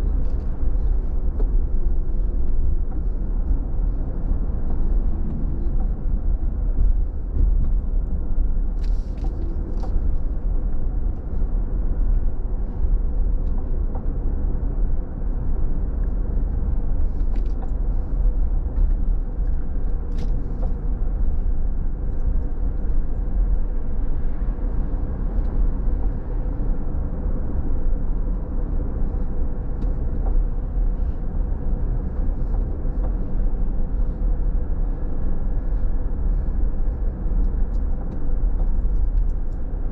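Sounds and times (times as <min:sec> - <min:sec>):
car engine and tyre rumble: 0:00.0 - 0:39.9
faint steady hum: 0:00.0 - 0:39.9.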